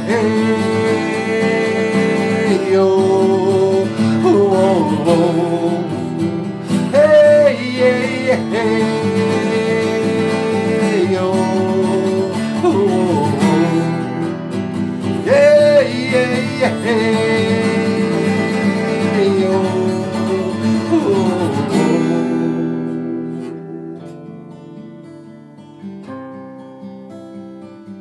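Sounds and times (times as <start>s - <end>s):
man singing: 0.0s - 24.3s
acoustic guitar strumming: 0.0s - 28.0s.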